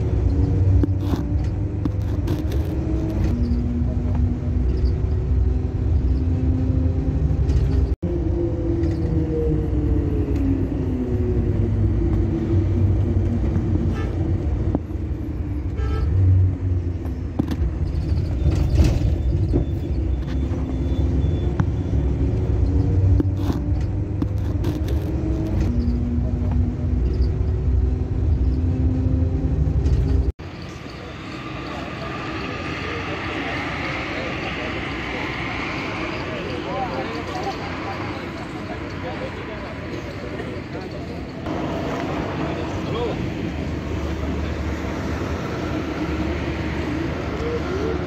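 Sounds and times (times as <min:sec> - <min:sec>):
bus engine running: 0:00.0 - 0:48.0
road rumble: 0:00.0 - 0:48.0.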